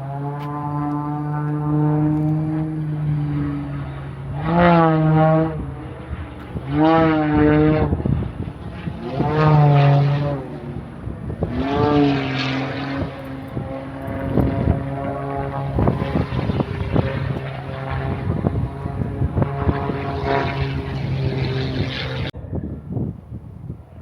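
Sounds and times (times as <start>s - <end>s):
propeller airplane engine droning: 0.0s - 22.4s.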